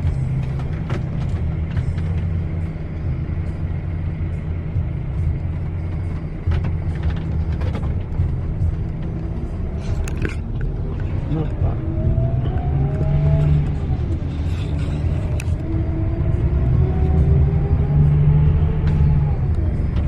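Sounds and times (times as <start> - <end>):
bus engine and road drone: 0.0 - 20.0.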